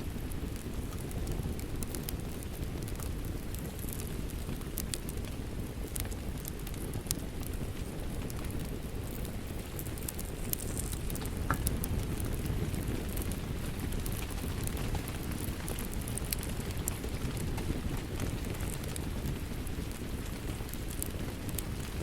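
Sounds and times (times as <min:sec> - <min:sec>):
rain rumbling: 0:00.0 - 0:22.0
wood fire crackling: 0:00.0 - 0:22.0.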